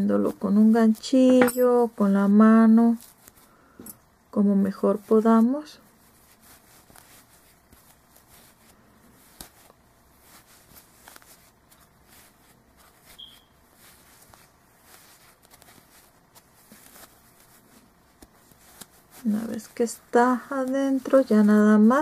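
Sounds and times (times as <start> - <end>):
faint rustling of stuffing: 0.0 - 22.0.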